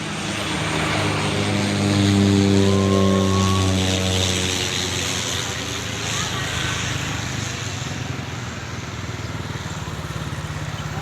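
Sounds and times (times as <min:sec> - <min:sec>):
turboprop plane passing: 0:00.0 - 0:11.0.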